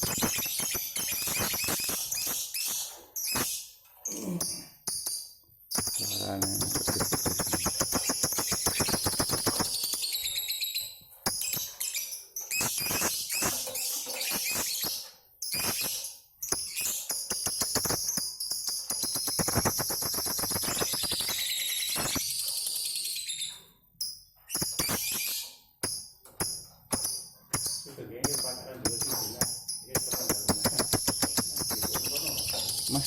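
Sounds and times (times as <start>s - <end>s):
birds chattering trills: 0.0s - 33.0s.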